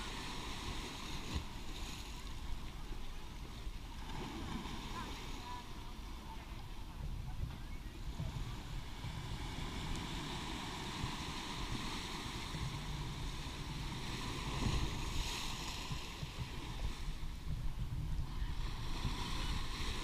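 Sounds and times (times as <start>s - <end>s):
ocean surf on shore: 0.0s - 20.0s
wind buffeting microphone: 0.0s - 20.0s.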